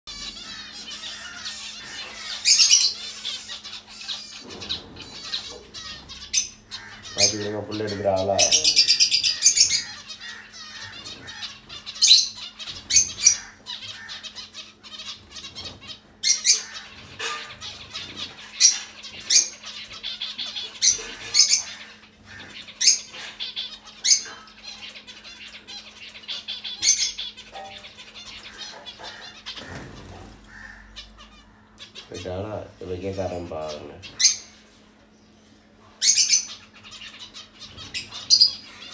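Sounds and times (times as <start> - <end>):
finches chirping: 0.1 - 38.9.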